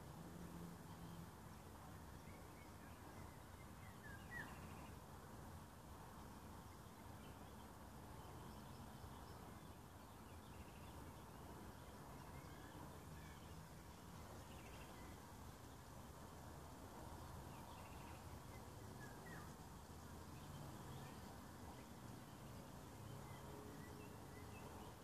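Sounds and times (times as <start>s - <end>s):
faint bird chirps: 0.1s - 5.1s, 6.1s - 16.2s, 17.1s - 25.0s.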